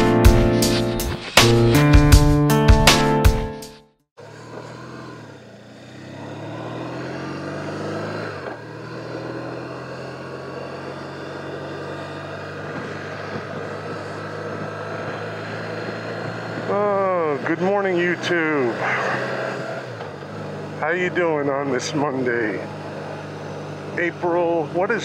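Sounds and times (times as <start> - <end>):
motorcycle engine running: 4.2 - 25.0.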